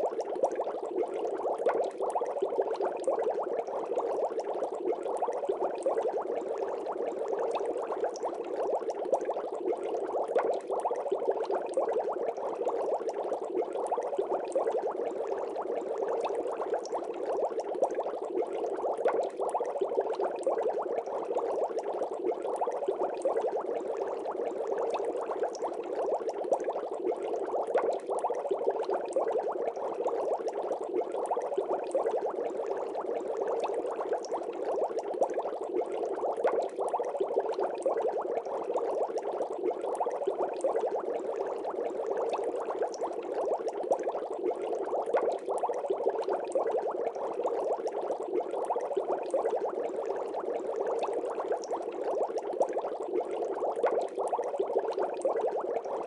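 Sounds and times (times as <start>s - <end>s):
water bubbling: 0.0s - 56.0s.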